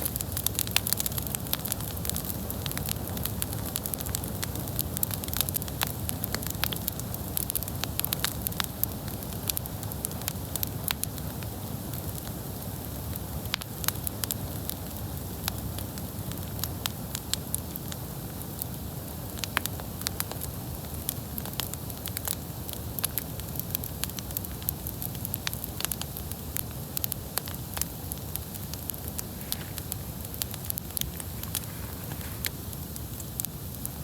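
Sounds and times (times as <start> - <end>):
campfire crackling and popping: 0.0 - 34.0
fire rumble and hiss: 0.0 - 34.0.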